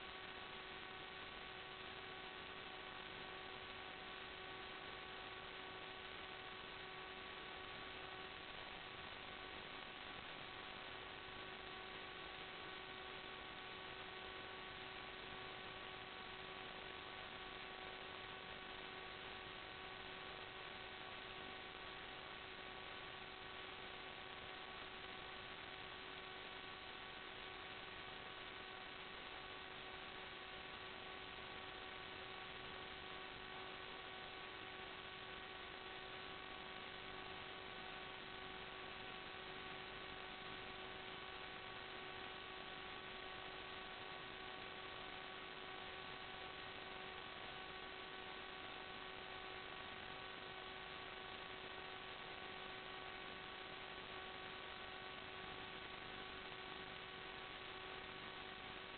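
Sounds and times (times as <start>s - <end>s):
static hiss: 0.0s - 58.9s.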